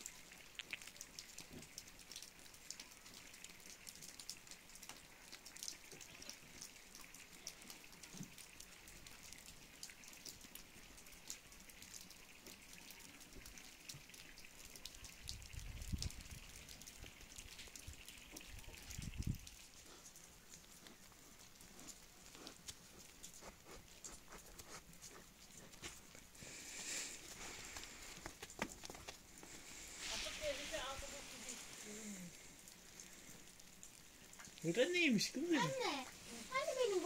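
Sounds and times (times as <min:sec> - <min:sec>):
wet snow pattering on roof: 0:00.0 - 0:37.0.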